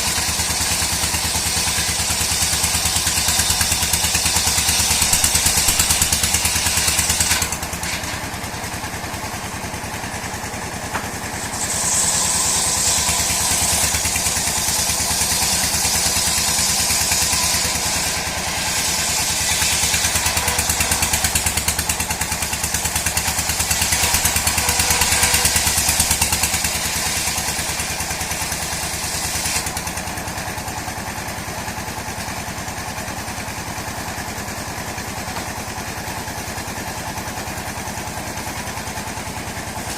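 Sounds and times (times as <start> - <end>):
saw cutting through wood: 0.0 - 39.9
sawmill engine running: 0.0 - 39.9.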